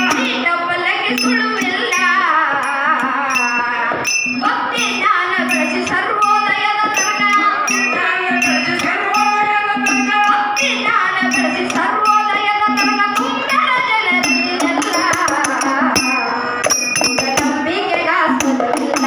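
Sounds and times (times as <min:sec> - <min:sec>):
jingling tambourine percussion: 0:00.0 - 0:19.0
woman singing: 0:00.0 - 0:19.0.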